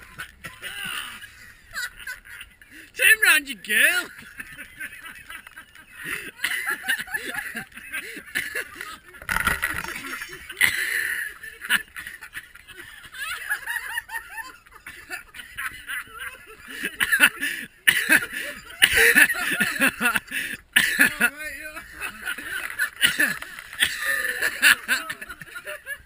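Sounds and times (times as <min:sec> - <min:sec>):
people laughing and snickering: 0:00.0 - 0:26.0.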